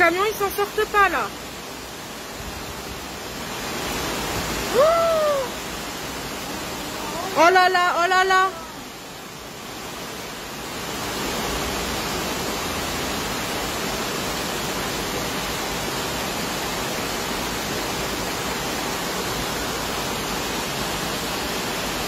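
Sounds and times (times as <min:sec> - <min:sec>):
rushing floodwater: 0:00.0 - 0:22.0
torrential rain: 0:00.0 - 0:22.0.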